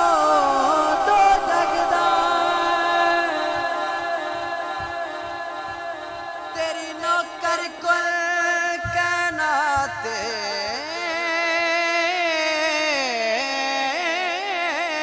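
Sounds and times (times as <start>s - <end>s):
voices singing devotional song: 0.0s - 15.0s.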